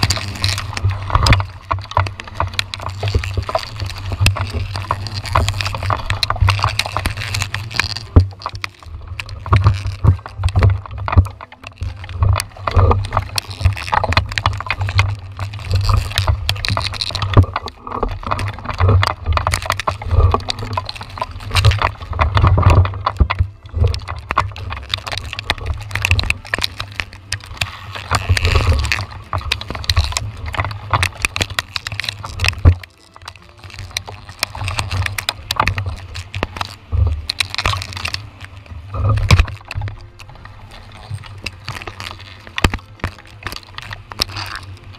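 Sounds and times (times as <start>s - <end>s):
wind rumble on microphone: 0.0s - 44.9s.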